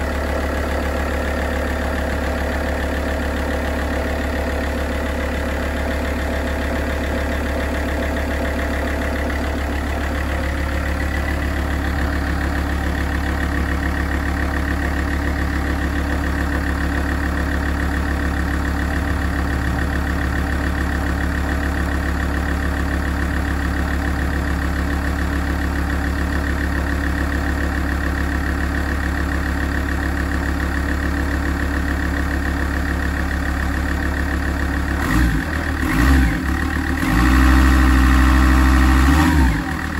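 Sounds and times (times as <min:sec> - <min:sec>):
diesel car engine idling: 0:00.0 - 0:39.9.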